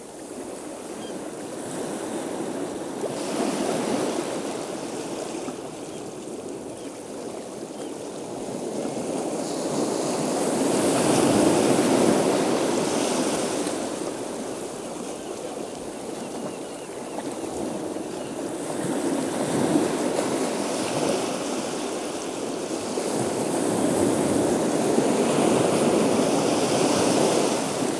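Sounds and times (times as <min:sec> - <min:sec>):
ocean waves breaking: 0:01.5 - 0:27.9.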